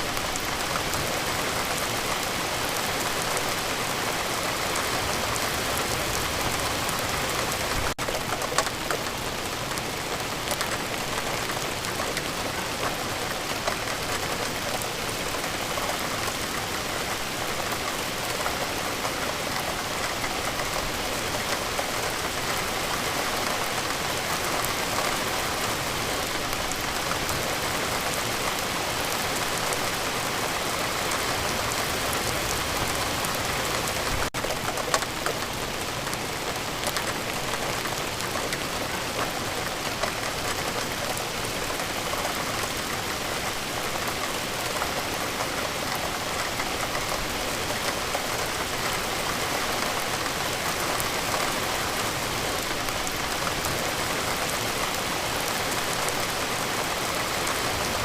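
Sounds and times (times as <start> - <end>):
individual raindrop patters: 0.0 - 58.0
steady rain falling: 0.0 - 58.0.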